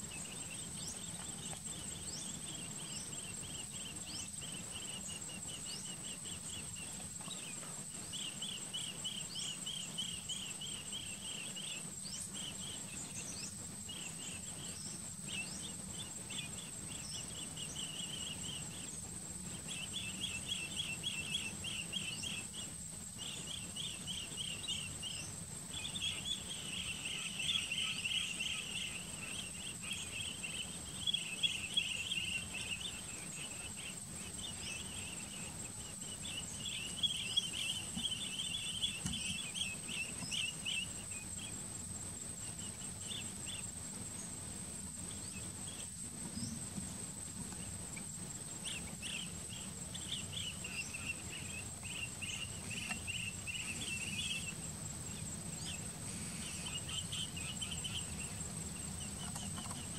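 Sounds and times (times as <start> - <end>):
bee-eaters trilled chirps: 0.0 - 44.4, 47.5 - 59.9
high-pitched insect whine: 0.0 - 59.9.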